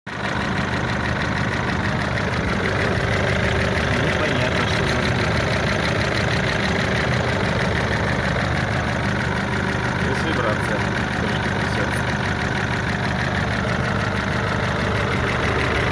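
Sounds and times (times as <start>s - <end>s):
diesel engine idling: 0.1s - 15.9s.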